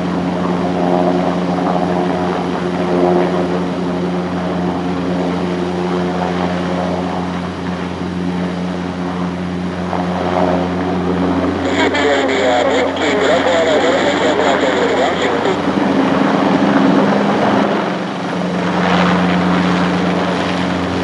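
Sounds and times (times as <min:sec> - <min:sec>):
helicopter engines and rotors: 0:00.0 - 0:21.0.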